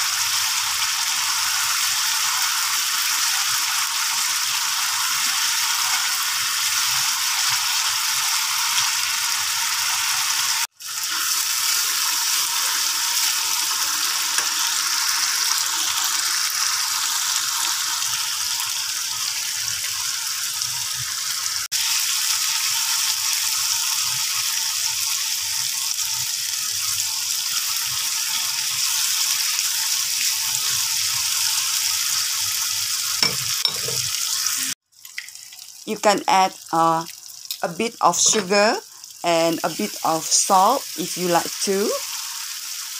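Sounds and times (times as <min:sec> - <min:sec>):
chili paste sizzling in oil: 0:00.0 - 0:42.9.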